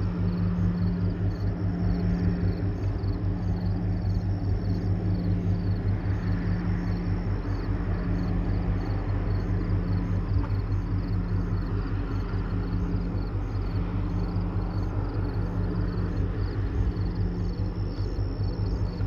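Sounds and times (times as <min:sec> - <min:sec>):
ship engine drone: 0:00.0 - 0:19.0.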